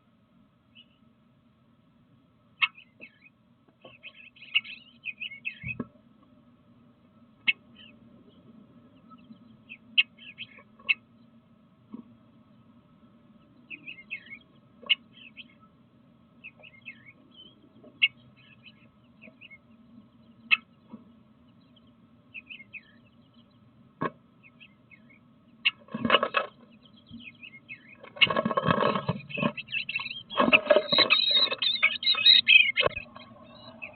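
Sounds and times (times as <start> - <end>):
faint steady hum: 0.0 - 33.9
songbirds chirping: 0.0 - 33.9.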